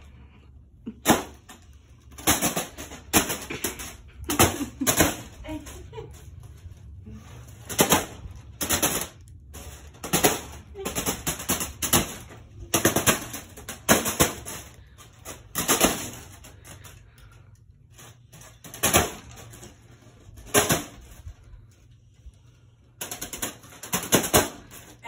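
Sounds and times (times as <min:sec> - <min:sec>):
fan blades slapping foil balloon: 0:00.0 - 0:25.0.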